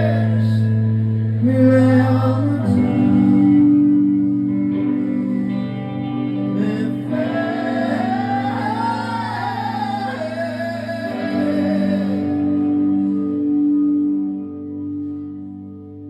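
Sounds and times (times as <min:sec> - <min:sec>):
person singing with vibrato: 0:00.0 - 0:13.8.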